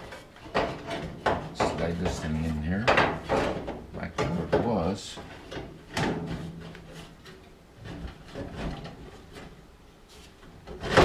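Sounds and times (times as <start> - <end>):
metal parts scraping and knocking: 0.0 - 9.6.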